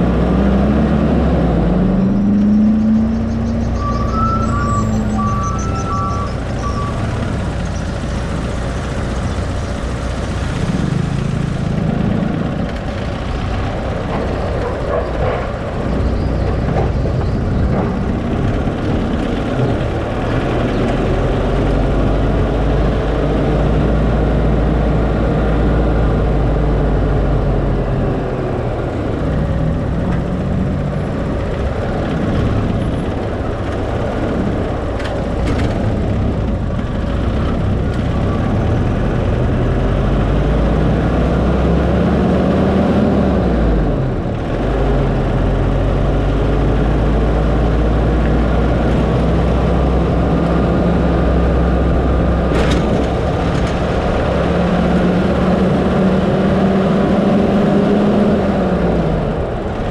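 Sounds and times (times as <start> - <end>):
car engine: 0.0 - 59.9
road noise: 0.0 - 59.9.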